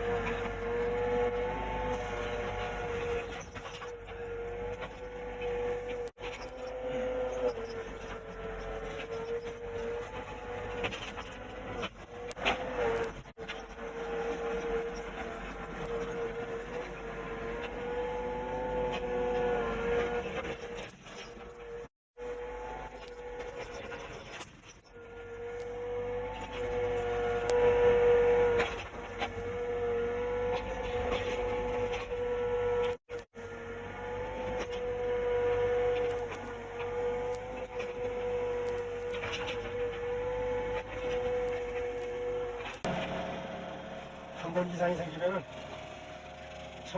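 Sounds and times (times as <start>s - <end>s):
constant whine: 0.0s - 46.9s.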